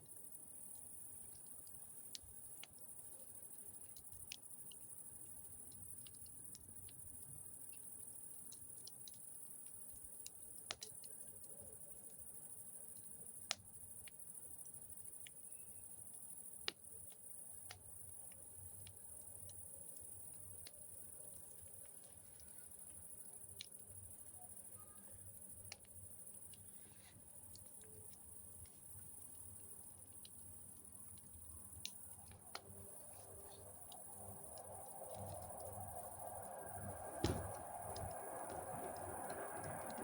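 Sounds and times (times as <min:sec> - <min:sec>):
campfire crackling and popping: 0:00.1 - 0:40.0
insects trilling: 0:00.1 - 0:40.0.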